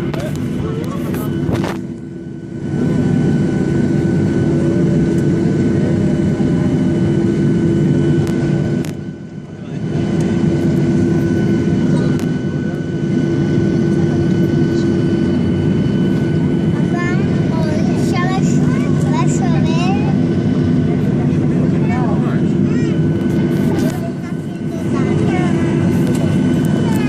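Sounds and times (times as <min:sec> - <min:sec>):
jet engine rumble in cabin: 0:00.0 - 0:27.0
whining engine hum: 0:00.0 - 0:27.0.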